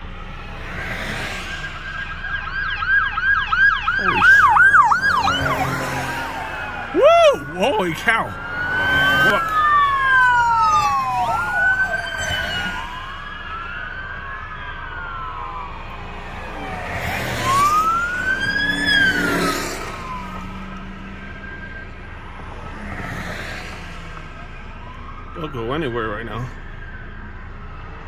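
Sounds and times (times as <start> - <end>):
police sirens wailing: 0.0 - 28.0.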